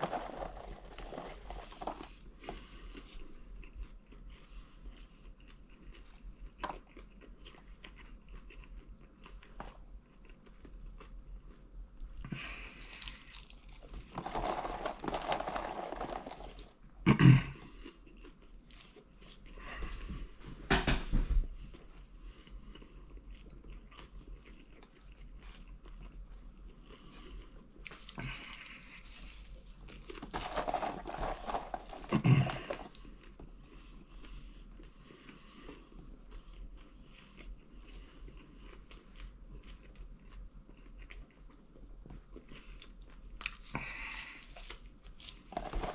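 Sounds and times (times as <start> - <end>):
person chewing popcorn: 0.0 - 20.4, 21.5 - 45.9.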